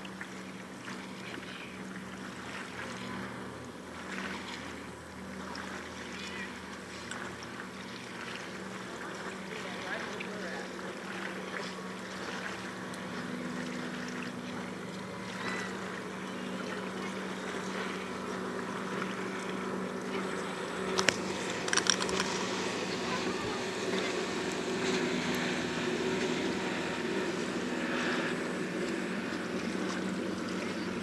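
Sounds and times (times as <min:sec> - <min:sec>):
boat engine humming: 0:00.0 - 0:31.0
water noise: 0:00.0 - 0:31.0
wind: 0:00.0 - 0:31.0.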